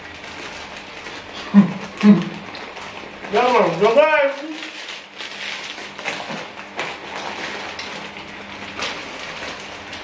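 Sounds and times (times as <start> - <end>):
plastic snack packets crinkling: 0.0 - 10.0.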